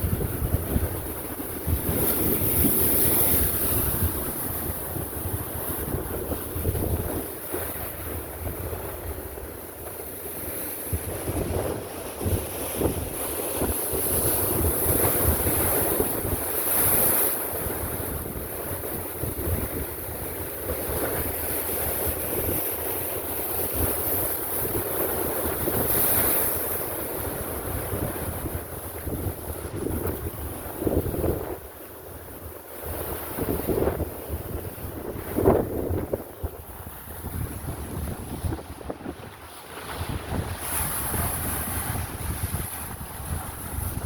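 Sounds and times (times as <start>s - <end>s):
waves breaking against rocks: 0.0s - 44.0s
wind buffeting microphone: 0.0s - 44.0s.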